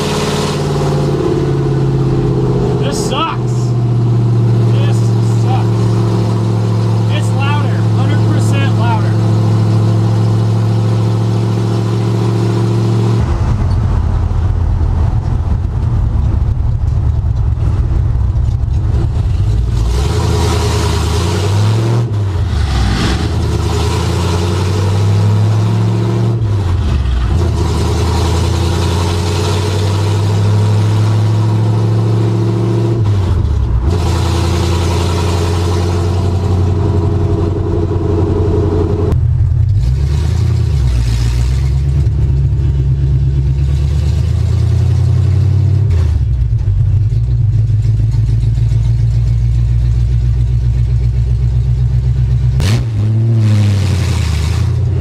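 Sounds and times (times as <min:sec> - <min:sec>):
loud pickup engine running: 0:00.0 - 0:55.0.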